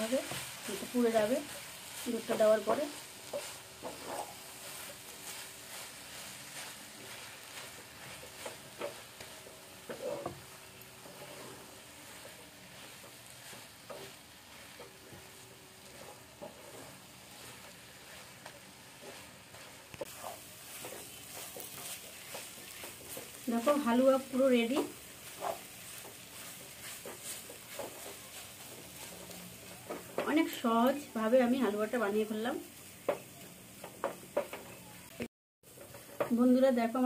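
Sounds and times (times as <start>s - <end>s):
wooden spatula scraping pan: 0.0s - 34.9s
faint sizzle of frying: 0.0s - 37.0s.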